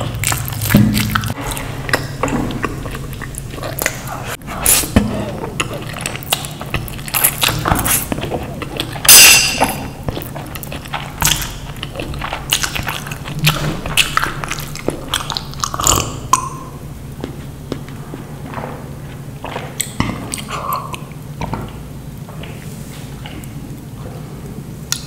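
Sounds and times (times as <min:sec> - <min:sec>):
wet mouth clicks: 0:00.0 - 0:18.0, 0:19.4 - 0:21.8
person chewing food: 0:00.0 - 0:25.0.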